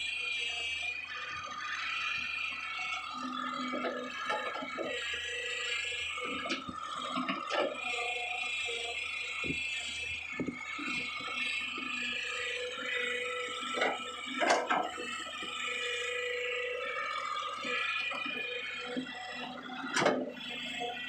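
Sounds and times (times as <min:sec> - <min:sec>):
excavator engine and hydraulics whine: 0:00.0 - 0:21.0.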